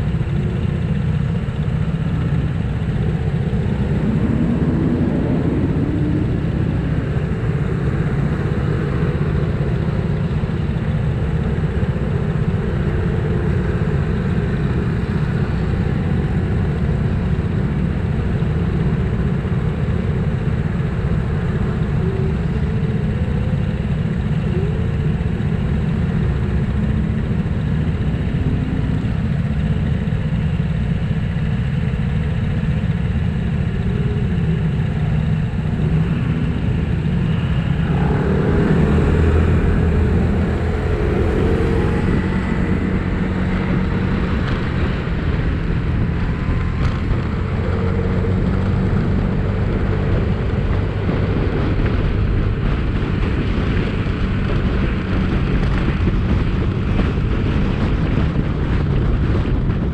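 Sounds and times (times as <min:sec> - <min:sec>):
motor scooters idling and revving: 0:00.0 - 0:59.9.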